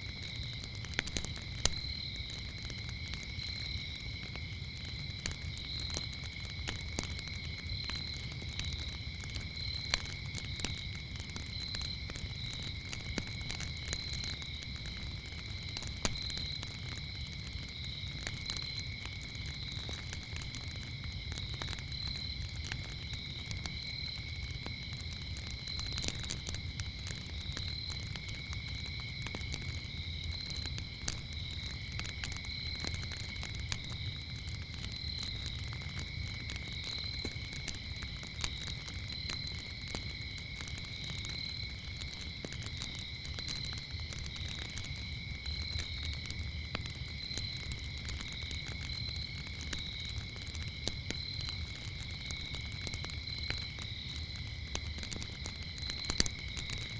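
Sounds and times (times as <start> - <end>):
crickets chirping: 0.0 - 56.9
wood fire crackling and popping: 0.0 - 56.9.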